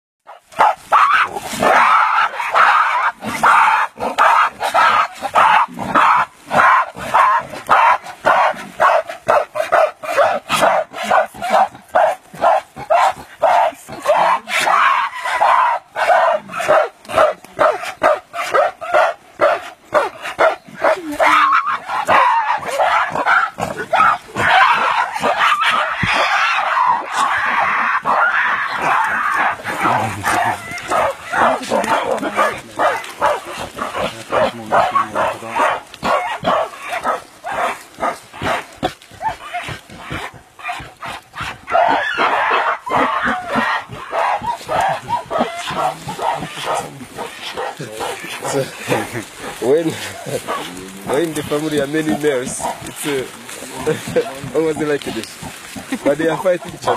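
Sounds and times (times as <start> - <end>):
gorillas calling: 0.4 - 56.9.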